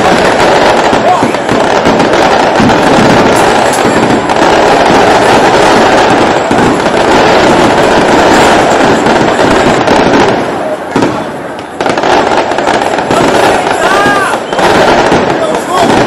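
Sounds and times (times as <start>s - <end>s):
stadium crowd noise: 0.0s - 16.0s.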